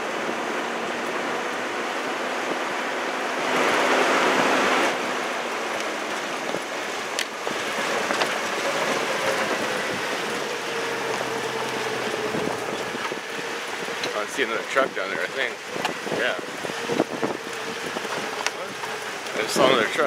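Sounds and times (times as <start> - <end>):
truck engine low hum: 0.0 - 20.0
tyres rushing on dirt and gravel: 0.0 - 20.0.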